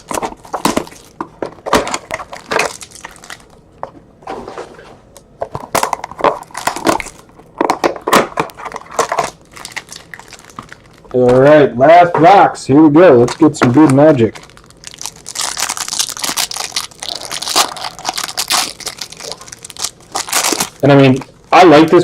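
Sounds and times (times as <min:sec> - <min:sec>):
packaging crinkling and tearing: 0:00.0 - 0:03.6, 0:05.7 - 0:11.2, 0:13.2 - 0:22.0.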